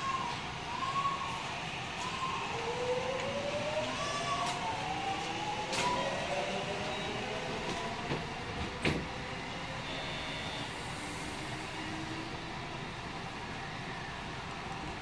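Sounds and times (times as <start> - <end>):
train wheels rolling on rails: 0.0 - 15.0
train motor whine rising: 2.0 - 14.2.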